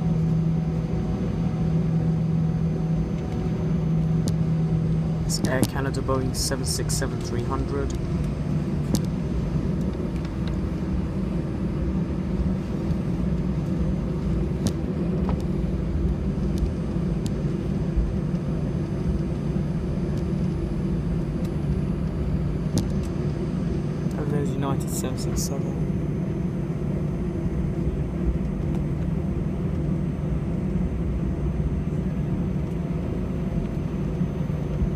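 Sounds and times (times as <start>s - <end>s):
airliner cabin rumble and hum: 0.0s - 34.9s.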